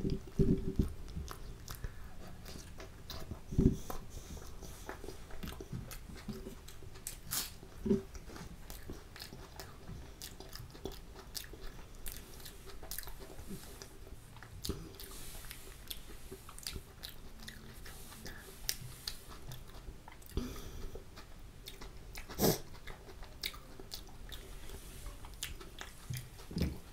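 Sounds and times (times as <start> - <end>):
wet chewing mouth clicks: 0.0 - 26.9.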